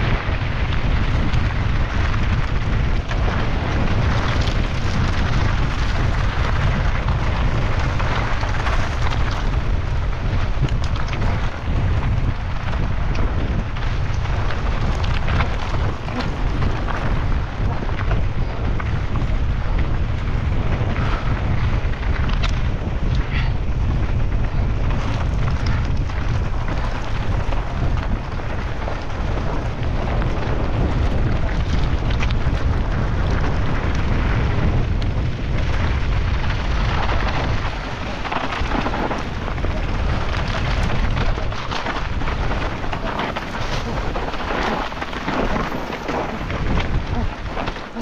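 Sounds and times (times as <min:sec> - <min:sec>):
tyres crunching over rock and dirt: 0:00.0 - 0:23.2, 0:24.1 - 0:48.0
bike rattling and knocking: 0:00.0 - 0:48.0
wind rush on microphone: 0:00.0 - 0:48.0.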